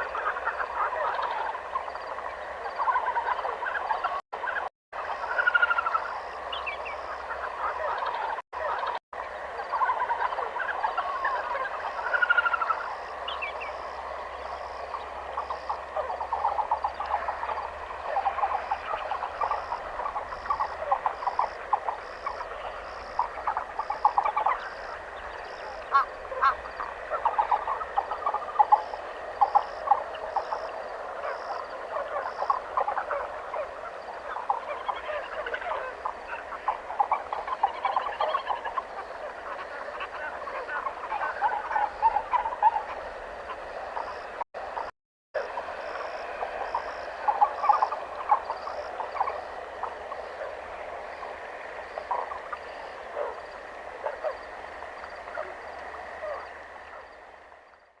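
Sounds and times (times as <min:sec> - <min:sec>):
frog or bird calls chorus: 0:00.0 - 0:58.0.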